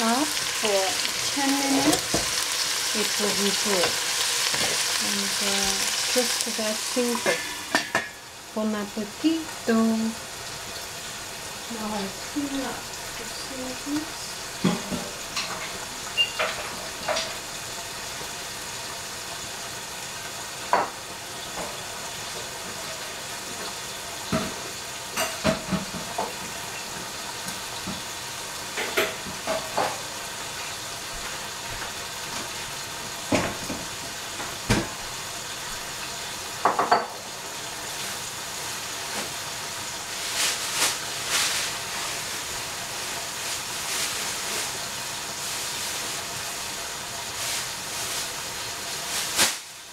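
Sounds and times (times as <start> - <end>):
steam sizzling and hissing in pot: 0.0 - 49.9.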